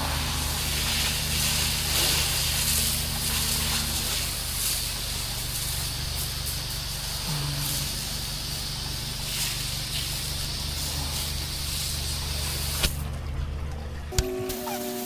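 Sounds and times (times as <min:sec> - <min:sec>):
water spraying hiss: 0:00.0 - 0:13.1, 0:14.4 - 0:15.0
pressure washer engine hum: 0:00.0 - 0:15.0.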